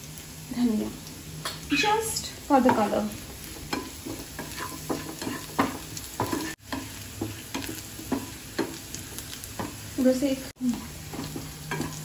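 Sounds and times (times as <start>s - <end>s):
food sizzling in a pan: 0.0s - 12.0s
wooden spatula scraping a pan: 1.8s - 12.0s.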